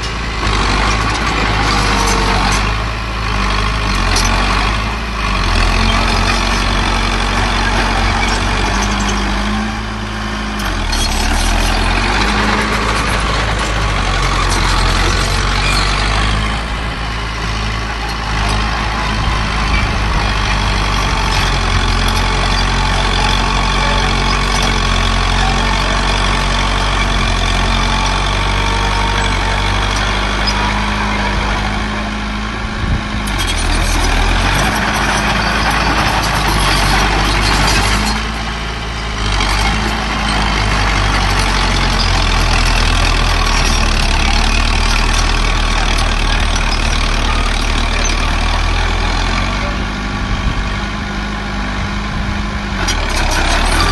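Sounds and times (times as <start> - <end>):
diesel machinery running: 0.0 - 53.9.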